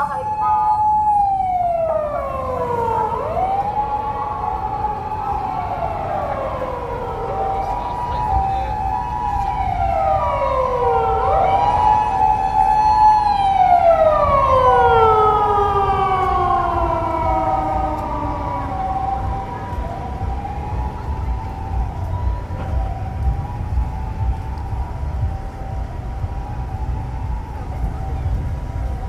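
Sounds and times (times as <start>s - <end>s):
two-tone ambulance siren: 0.0s - 29.0s
wail siren: 0.0s - 29.0s.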